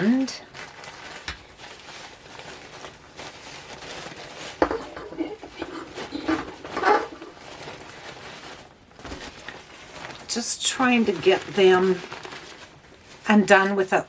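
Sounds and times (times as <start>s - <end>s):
wrapping rustling and scraping: 0.0s - 14.0s.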